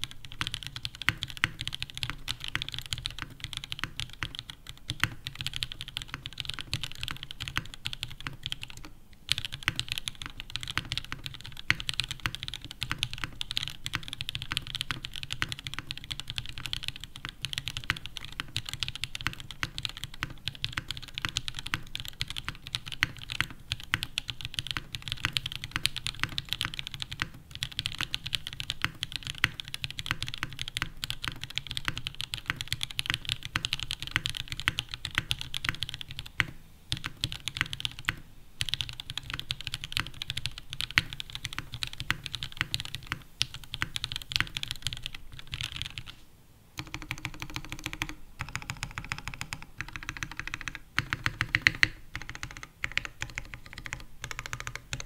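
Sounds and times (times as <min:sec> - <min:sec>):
fast typing on mechanical keyboard: 0:00.0 - 0:46.1, 0:46.8 - 0:55.0.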